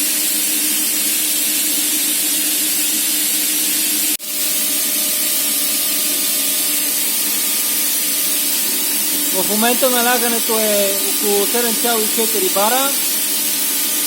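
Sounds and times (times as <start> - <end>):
air compressor humming: 0.0 - 14.0
compressed air hissing: 0.0 - 14.0.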